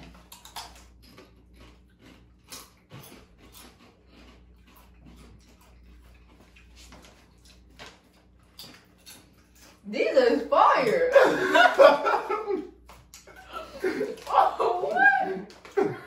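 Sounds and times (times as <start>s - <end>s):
chewing crunchy chips: 0.0s - 9.9s, 12.7s - 16.0s.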